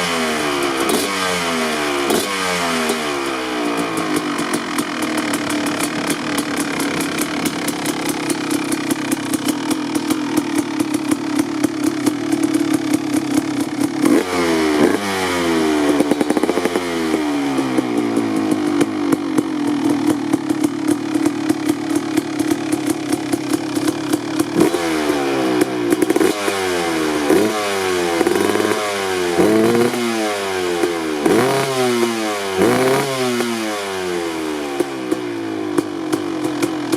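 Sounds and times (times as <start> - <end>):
engine revving: 0.0 - 36.9
two-stroke motorcycle engine idling: 0.0 - 36.9.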